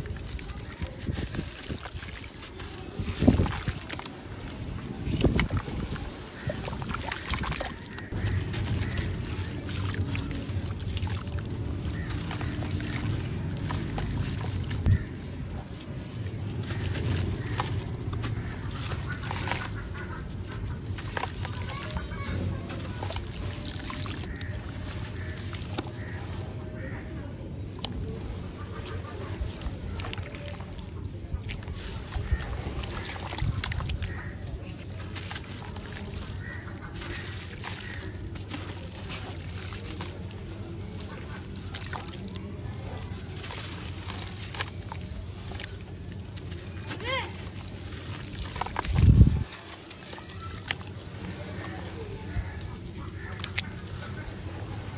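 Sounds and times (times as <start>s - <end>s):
gritty crunching and crackling: 0.0s - 54.9s
small splashes: 0.0s - 54.9s
water sloshing: 0.0s - 54.9s.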